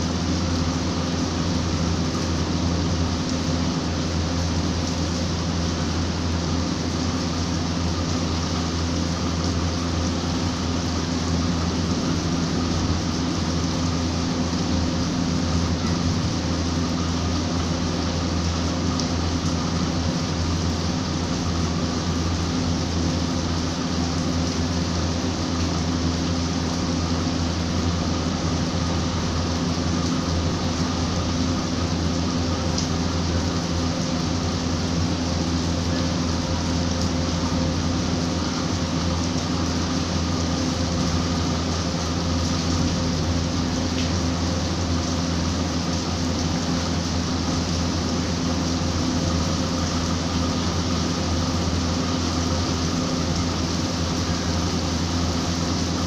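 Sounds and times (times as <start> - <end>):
constant low hum: 0.0 - 56.0
steady rain falling: 0.0 - 56.0.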